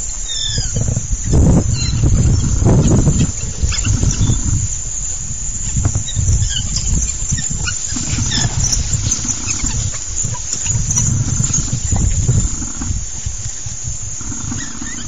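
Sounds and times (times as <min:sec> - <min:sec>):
steady low rumble: 0:00.0 - 0:14.9
wild dogs chirping: 0:00.0 - 0:15.0.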